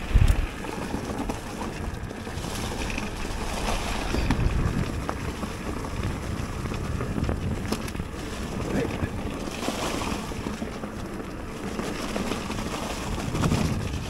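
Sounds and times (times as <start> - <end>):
wind rushing over microphone: 0.0 - 10.6, 12.0 - 14.0
bike trail noise: 0.0 - 14.0.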